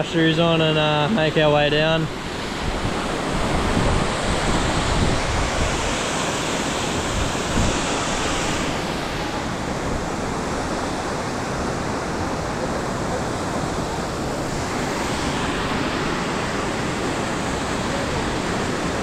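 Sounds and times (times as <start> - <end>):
waterfall rushing: 0.0 - 19.0
wind buffeting microphone: 1.7 - 19.0.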